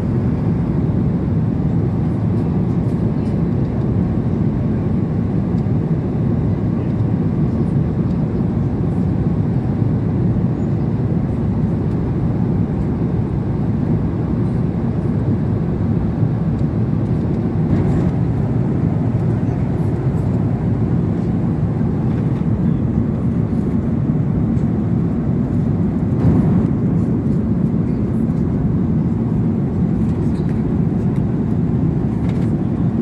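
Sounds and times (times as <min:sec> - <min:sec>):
airliner cabin engine roar: 0:00.0 - 0:33.0.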